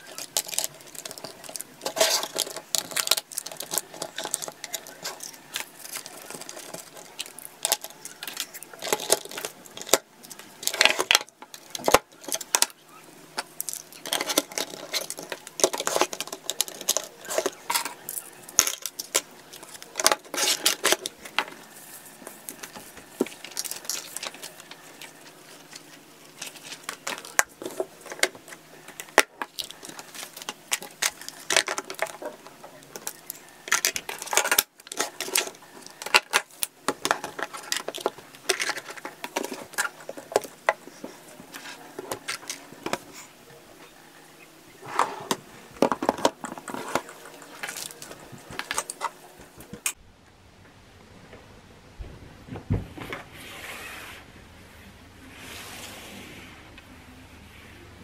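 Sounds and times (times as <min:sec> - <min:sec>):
plastic and metal clattering in drawer: 0:00.0 - 0:12.8, 0:13.4 - 0:43.2, 0:44.8 - 0:50.0.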